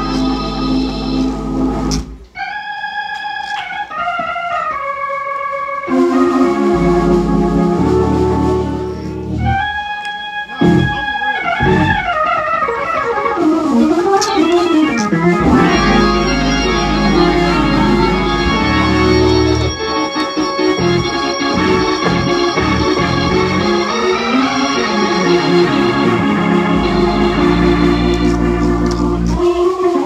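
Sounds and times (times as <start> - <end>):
electronic organ playing: 0.0 - 30.0.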